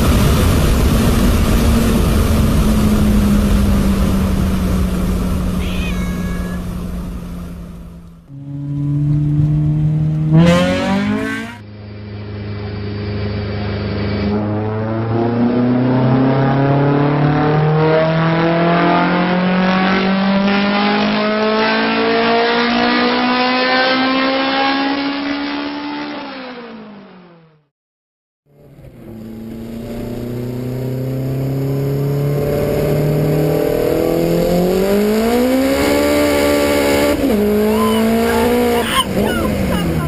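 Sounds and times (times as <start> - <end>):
car engine revving: 0.0 - 27.6, 28.6 - 40.0.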